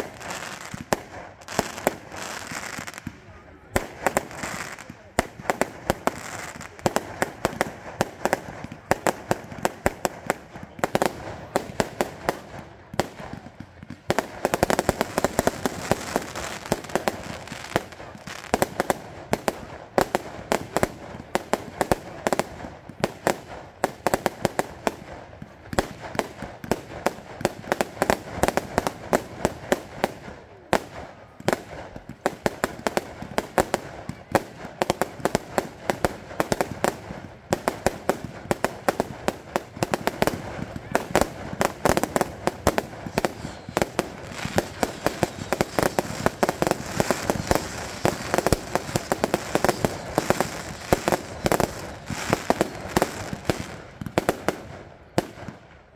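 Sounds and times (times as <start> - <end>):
fireworks banging and crackling: 0.0 - 55.9.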